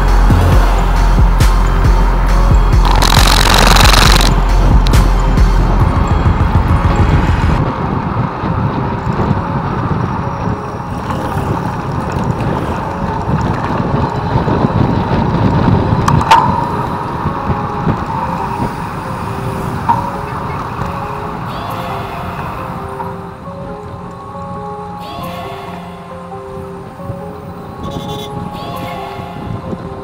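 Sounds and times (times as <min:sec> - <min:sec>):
road noise: 0:00.0 - 0:30.0
wind buffeting microphone: 0:02.8 - 0:25.0, 0:26.4 - 0:30.0.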